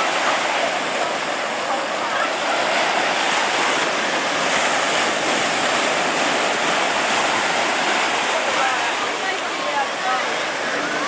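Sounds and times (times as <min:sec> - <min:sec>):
ocean waves breaking: 0:00.0 - 0:11.0.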